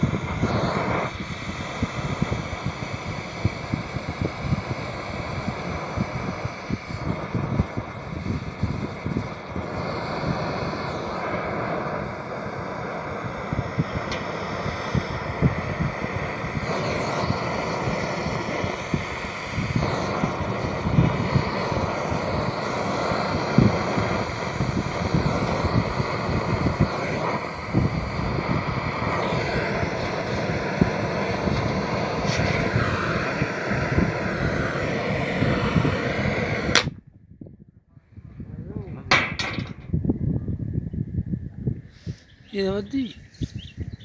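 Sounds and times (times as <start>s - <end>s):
crackles of melting glass: 0.0s - 36.9s
cutting torch flame blowing: 0.0s - 37.0s.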